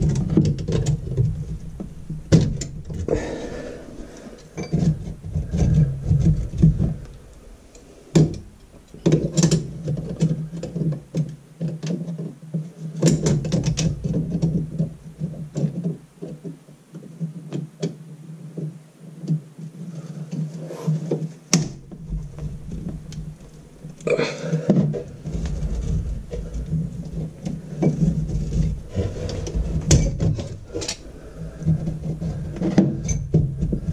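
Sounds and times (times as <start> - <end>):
steady low hum: 0.0 - 11.6, 18.1 - 33.9.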